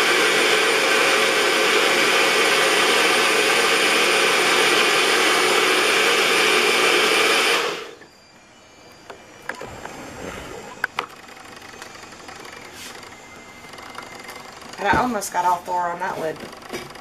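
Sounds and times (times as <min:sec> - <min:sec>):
blender motor running: 0:00.0 - 0:17.0.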